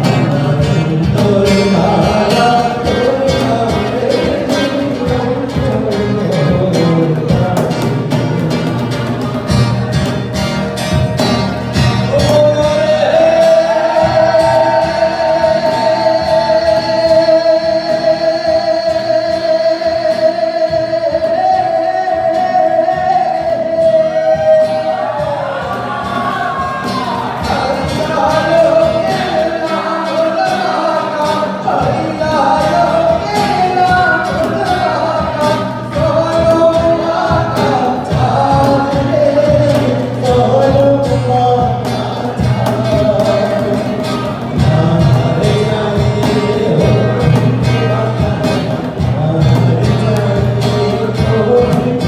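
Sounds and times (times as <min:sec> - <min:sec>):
person singing: 0:00.0 - 0:09.4, 0:11.8 - 0:52.0
acoustic guitar: 0:00.0 - 0:52.0
cajon hits: 0:00.0 - 0:52.0.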